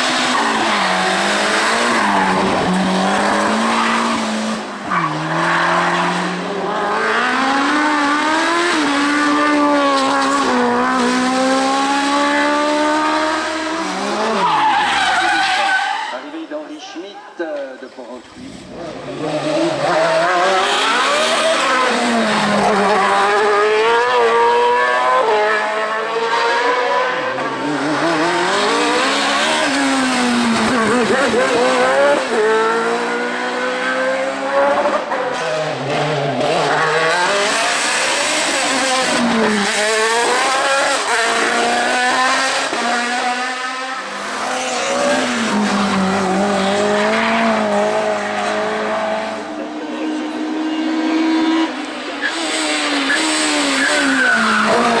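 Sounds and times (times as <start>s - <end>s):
race car engine revving: 0.0s - 15.6s, 18.2s - 55.0s.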